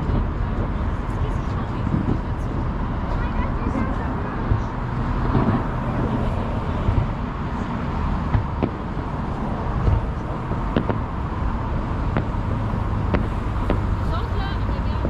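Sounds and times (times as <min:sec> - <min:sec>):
distant fireworks rumble: 0:00.0 - 0:15.0
fireworks bangs and cracks: 0:00.0 - 0:15.0.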